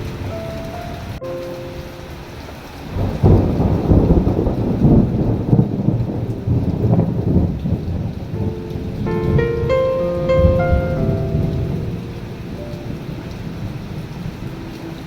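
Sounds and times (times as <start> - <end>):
soft piano notes: 0.0 - 4.3, 5.8 - 15.0
steady rain: 0.0 - 15.0
thunder rumbling: 0.0 - 15.0.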